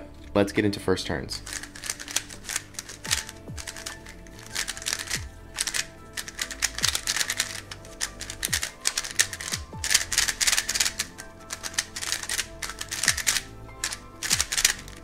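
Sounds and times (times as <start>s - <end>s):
puzzle cube plastic clicking: 1.5s - 15.0s.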